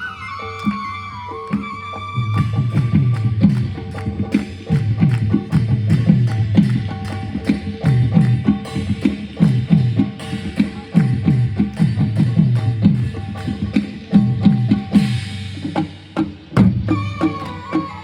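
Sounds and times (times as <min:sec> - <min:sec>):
sharp drum slaps: 0:02.4 - 0:17.5.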